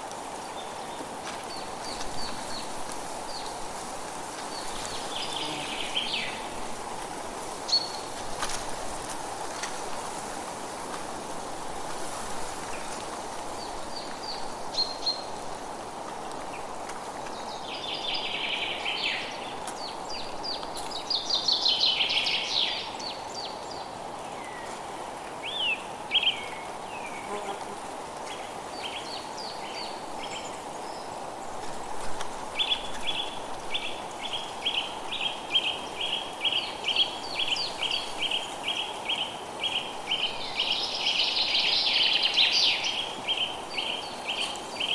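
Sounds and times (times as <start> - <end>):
background hiss: 0.0 - 44.9.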